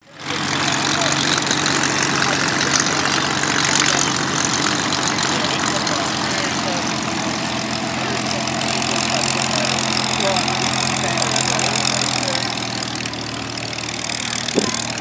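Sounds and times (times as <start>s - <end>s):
aircraft engine idling: 0.0s - 15.0s.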